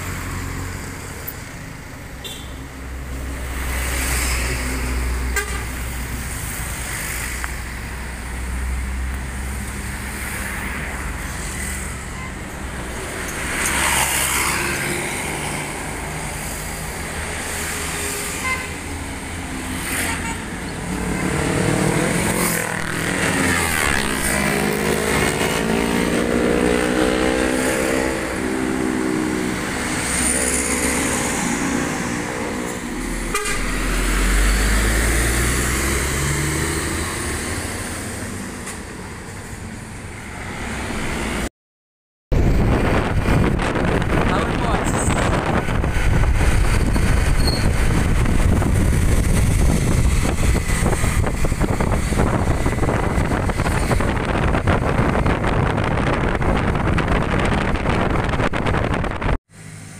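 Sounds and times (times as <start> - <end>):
road traffic going by: 0.0 - 41.5, 42.3 - 59.9.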